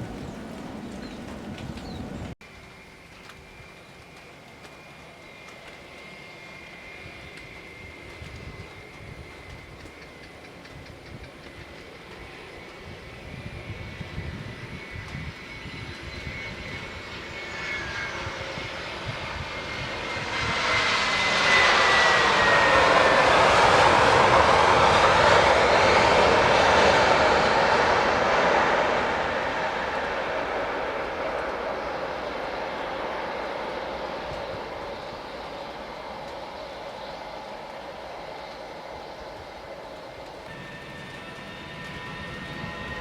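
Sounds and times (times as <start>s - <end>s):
jet airliner engine whine: 0.0s - 43.0s.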